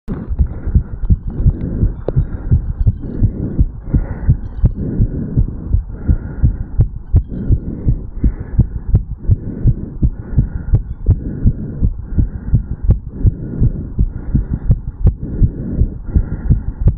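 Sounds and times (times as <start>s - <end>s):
fast heartbeat thumps: 0.1s - 16.9s.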